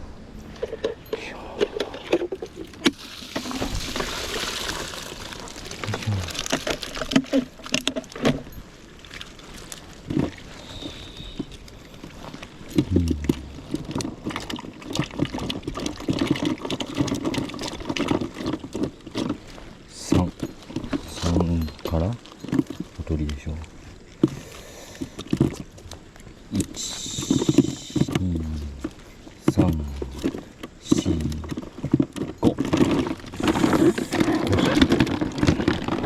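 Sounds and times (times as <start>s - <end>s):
water pouring and splashing: 1.9s - 36.0s.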